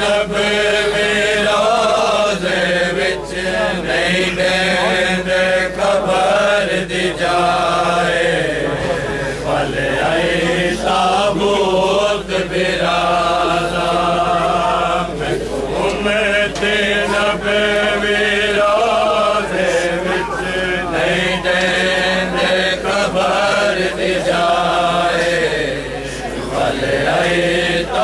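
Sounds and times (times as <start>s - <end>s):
men chanting: 0.0s - 28.0s.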